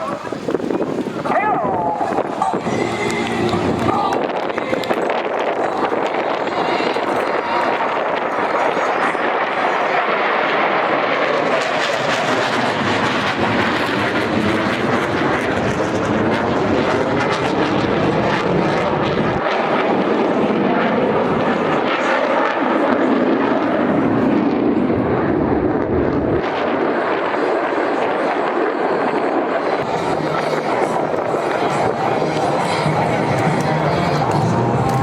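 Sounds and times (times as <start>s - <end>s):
jets flying past crackling: 0.0s - 35.0s.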